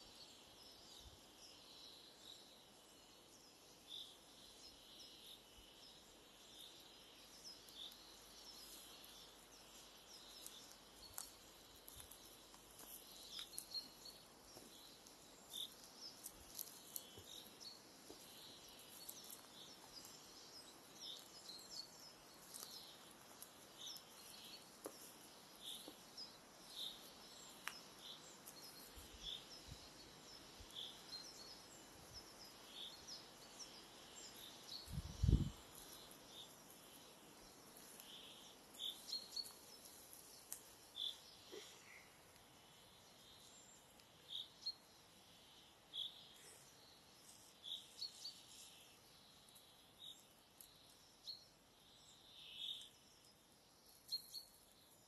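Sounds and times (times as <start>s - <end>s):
background hiss: 0.0s - 55.0s
songbirds chirping: 0.0s - 55.0s.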